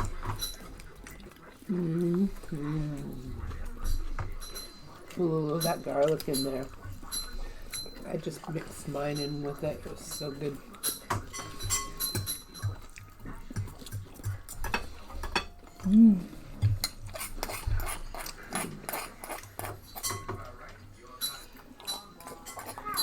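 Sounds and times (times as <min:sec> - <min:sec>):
cutlery clinking on plates: 0:00.0 - 0:01.2, 0:03.6 - 0:15.9, 0:16.5 - 0:23.0.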